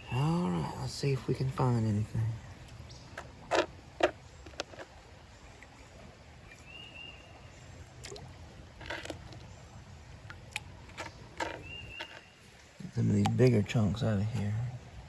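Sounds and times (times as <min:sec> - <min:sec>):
gravel and water sloshing in a pan: 0:02.5 - 0:14.7.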